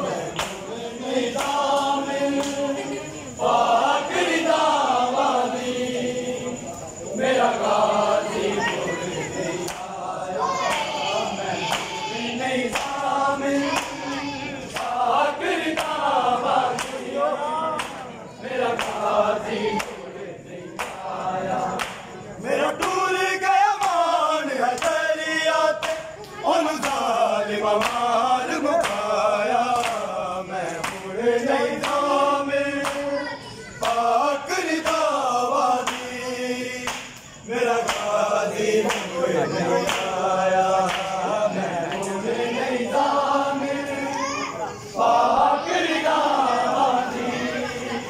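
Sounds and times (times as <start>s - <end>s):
men chanting in chorus: 0.0s - 48.0s.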